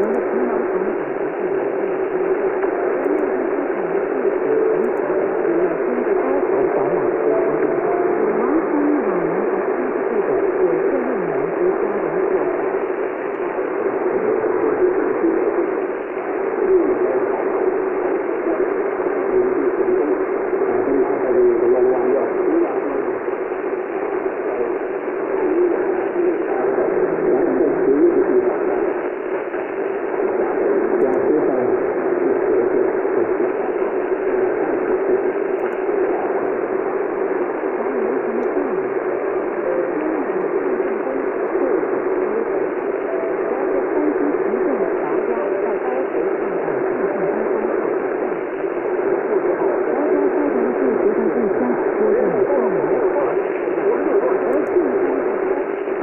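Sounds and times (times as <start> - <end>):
faint wavering radio tones: 0.0 - 56.0
radio hiss and static: 0.0 - 56.0.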